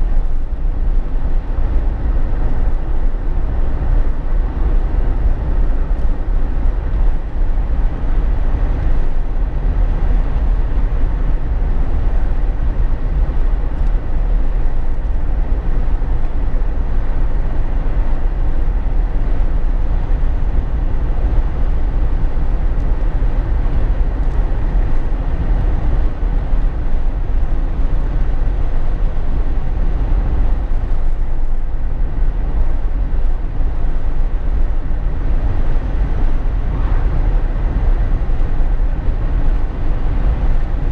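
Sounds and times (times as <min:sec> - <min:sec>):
engine and drivetrain rumble: 0:00.0 - 0:40.9.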